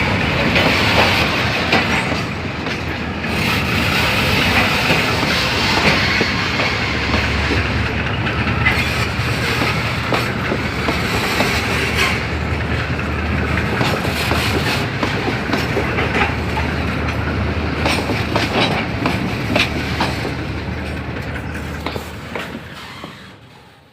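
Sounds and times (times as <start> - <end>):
train wheels clacking over rail joints: 0.0 - 23.8
low train rumble: 0.0 - 23.9.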